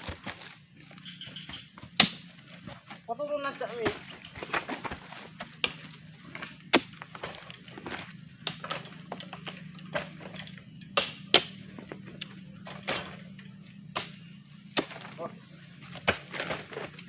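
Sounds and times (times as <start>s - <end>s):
sharp knocks and thuds: 0.0s - 3.0s, 3.6s - 13.3s, 13.9s - 15.2s, 15.8s - 17.0s.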